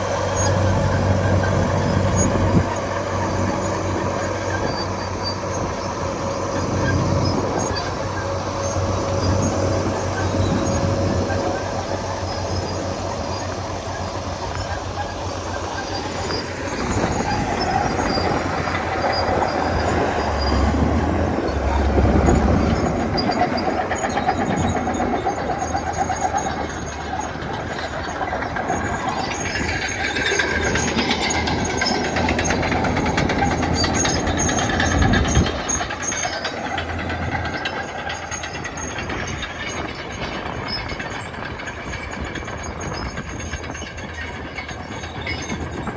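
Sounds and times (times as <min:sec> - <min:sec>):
diesel engine noise: 0:00.0 - 0:45.9
steel tracks clattering and squealing: 0:00.0 - 0:45.9.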